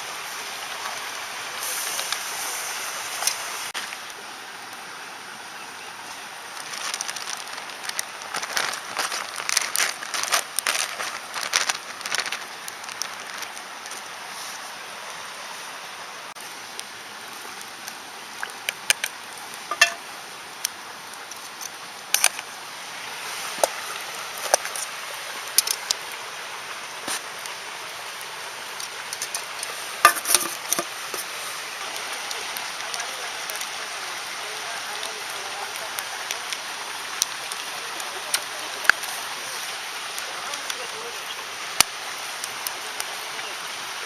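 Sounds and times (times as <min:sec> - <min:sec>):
campfire hissing and crackling: 0:00.0 - 0:44.0.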